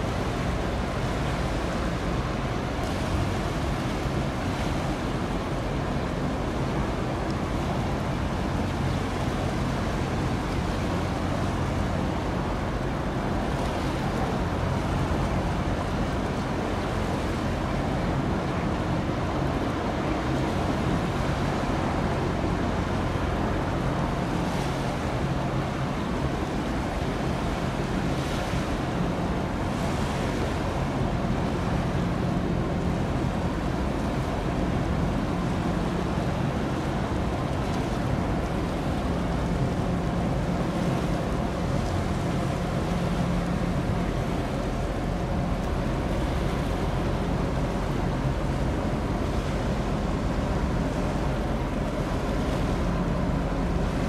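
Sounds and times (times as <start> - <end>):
ship engine hum: 0.0 - 54.0
water wash: 0.0 - 54.0.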